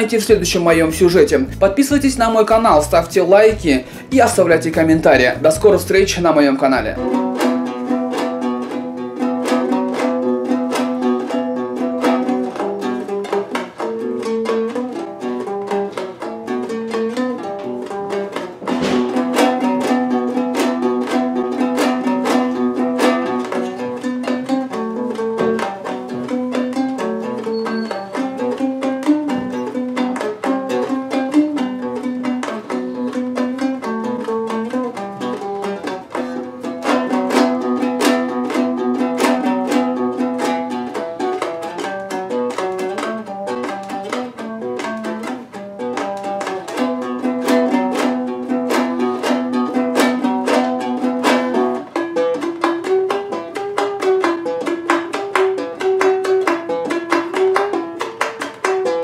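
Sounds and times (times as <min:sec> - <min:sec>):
lute strummed fast: 0:00.0 - 0:59.0.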